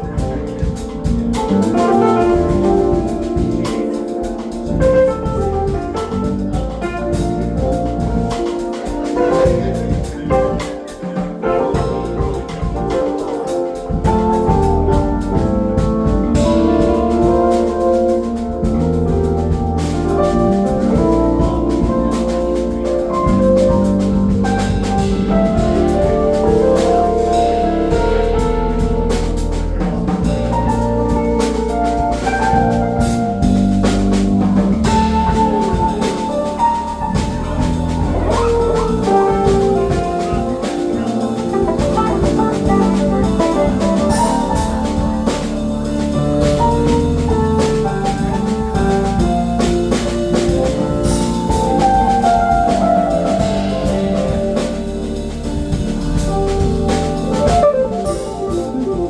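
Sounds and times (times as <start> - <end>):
bass: 0.0 - 59.0
drum kit: 0.0 - 59.0
keyboards and organ: 0.0 - 59.0.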